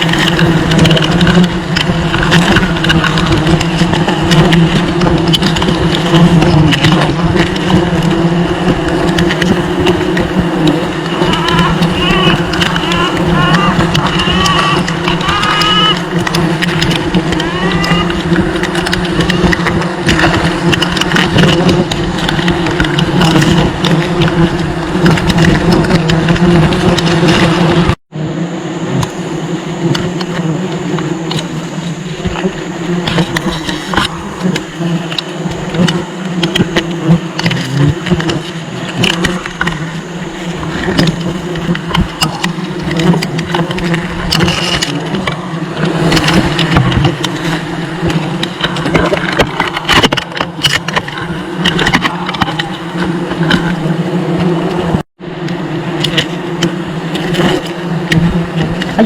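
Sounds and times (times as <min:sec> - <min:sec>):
scattered clicks: 0:00.0 - 0:28.0, 0:29.8 - 0:59.0
honeybees buzzing: 0:00.0 - 0:59.0.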